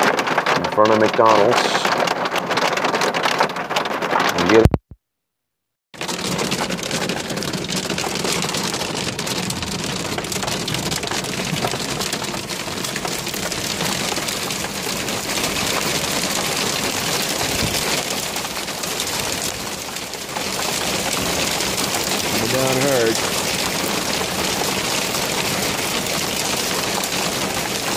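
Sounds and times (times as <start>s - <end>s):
hard rain and hail: 0.0s - 4.7s, 6.0s - 27.9s.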